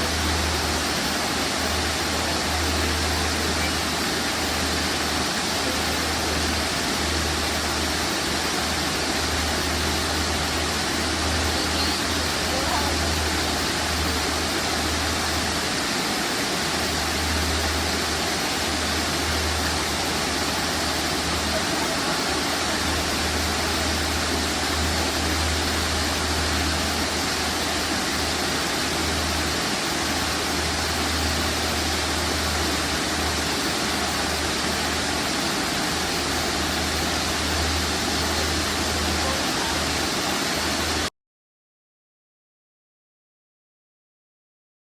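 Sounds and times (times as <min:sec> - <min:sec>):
waterfall rushing: 0:00.0 - 0:41.1.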